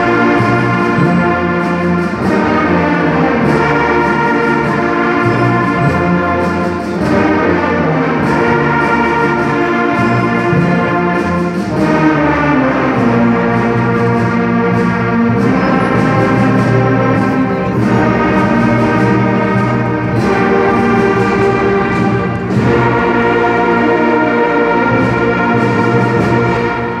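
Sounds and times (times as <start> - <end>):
concert band playing chords: 0.0 - 27.0.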